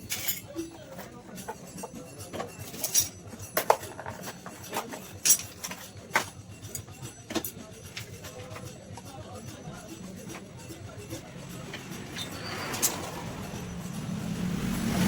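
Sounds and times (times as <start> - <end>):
metal tools clinking: 0.0 - 14.0.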